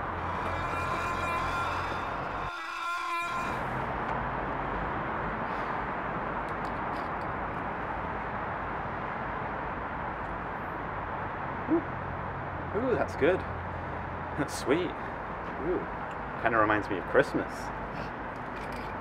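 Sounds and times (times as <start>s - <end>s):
distant traffic hum: 0.0s - 19.0s.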